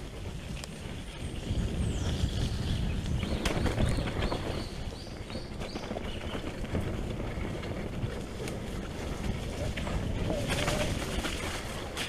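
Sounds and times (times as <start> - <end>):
bike rattling over stones: 0.0 - 12.0
wind rumble on microphone: 0.0 - 12.0.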